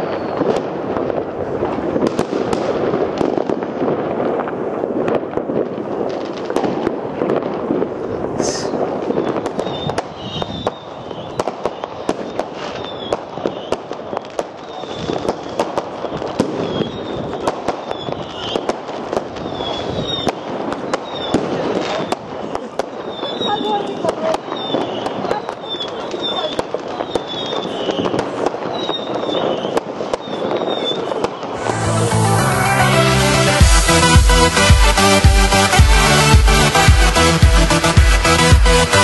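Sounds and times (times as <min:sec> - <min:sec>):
fireworks bangs: 0:00.0 - 0:39.0
fireworks crackling: 0:00.0 - 0:39.0.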